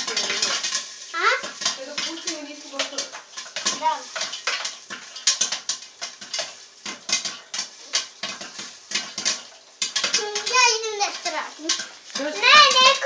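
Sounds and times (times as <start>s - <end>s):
popcorn popping in a covered pot: 0.0s - 13.0s.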